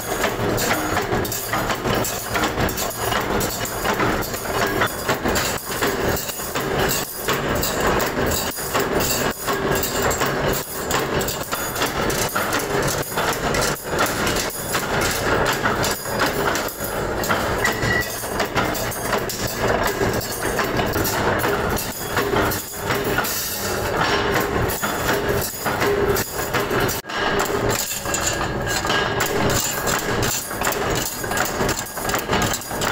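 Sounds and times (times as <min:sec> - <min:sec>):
metalworking machinery clattering: 0:00.0 - 0:32.9.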